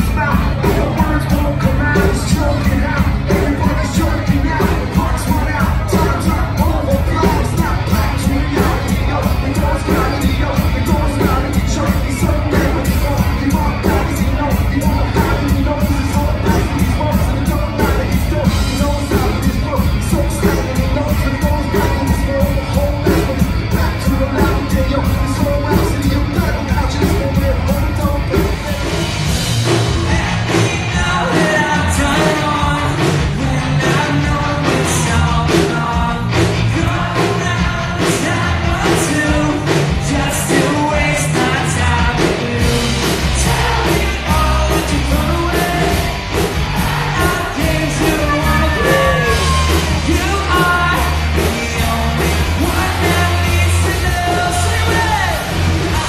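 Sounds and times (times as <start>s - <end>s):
lead singer singing: 0.0s - 56.0s
live rock band playing: 0.0s - 56.0s.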